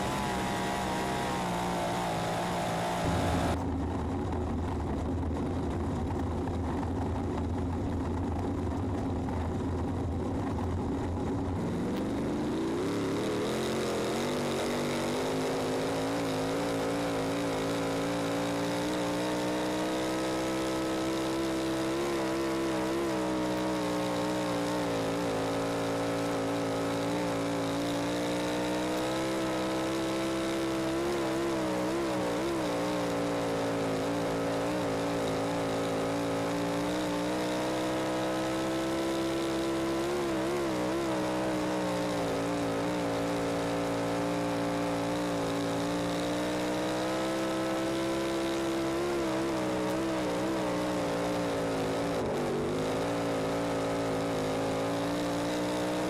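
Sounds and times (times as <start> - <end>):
race car engine: 0.0 - 56.0.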